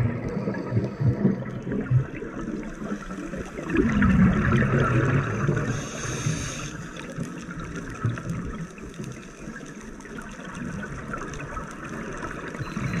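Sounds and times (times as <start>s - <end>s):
regulator bubbles gurgling: 0.0s - 13.0s
steady water hiss: 0.0s - 13.0s.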